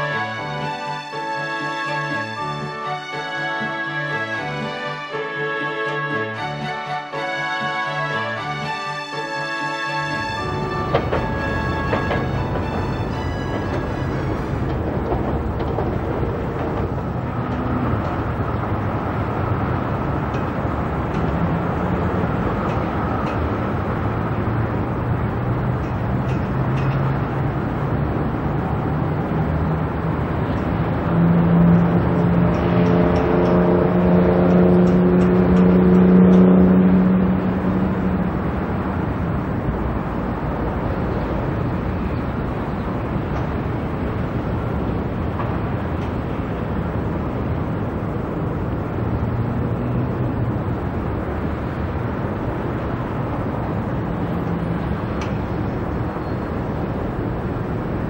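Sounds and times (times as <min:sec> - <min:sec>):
city traffic: 0:00.0 - 0:58.0
electric trains rumbling: 0:00.0 - 0:58.0
passing train hum: 0:00.0 - 0:58.0.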